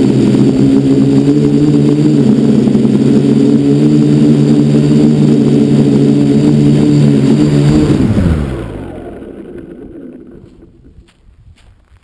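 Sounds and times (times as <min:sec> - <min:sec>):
drone motors and propellers whirring: 0:00.0 - 0:12.0.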